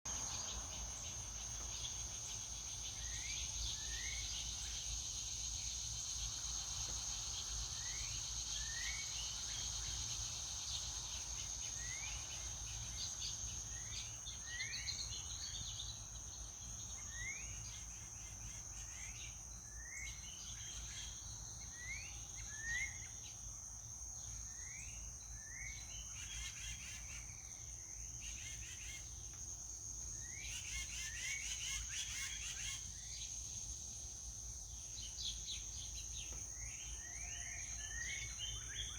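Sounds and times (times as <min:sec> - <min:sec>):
high-pitched insect trill: 0:00.1 - 0:38.9.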